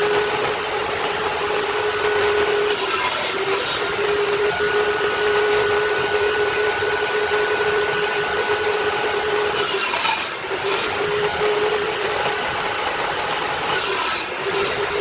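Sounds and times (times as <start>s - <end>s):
power tool motor whine: 0.0s - 15.0s.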